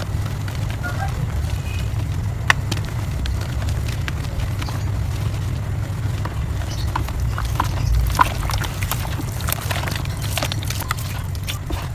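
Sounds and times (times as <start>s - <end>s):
low rumble: 0.0s - 11.9s
soft dirt crunching: 0.0s - 11.9s.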